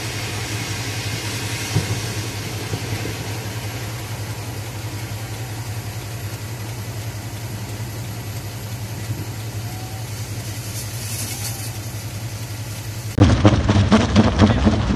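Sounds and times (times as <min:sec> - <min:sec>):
continuous hiss: 0:00.0 - 0:14.9
low engine hum: 0:00.0 - 0:14.9.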